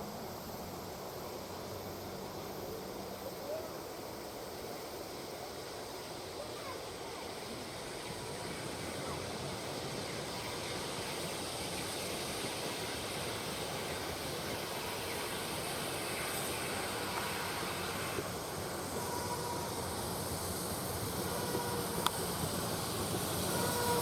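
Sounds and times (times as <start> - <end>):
steam locomotive hissing: 0.0 - 24.0.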